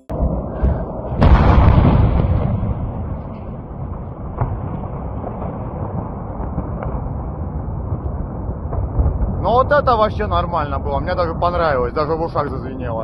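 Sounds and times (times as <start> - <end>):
explosion rumble: 0.0 - 13.0
low rumble of fire: 0.0 - 13.0.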